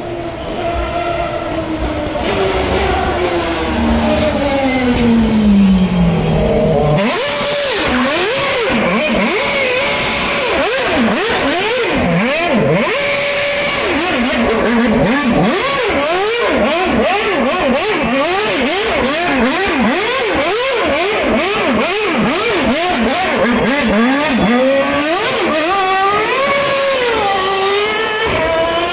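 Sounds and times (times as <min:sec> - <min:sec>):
racing car engine revving hard: 0:00.0 - 0:28.9.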